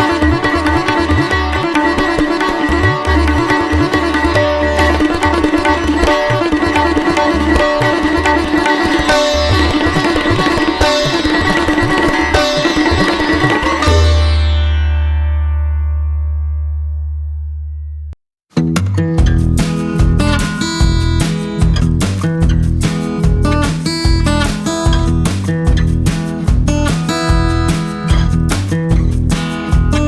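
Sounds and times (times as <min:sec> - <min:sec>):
plucked-string instrumental music: 0:00.0 - 0:30.0.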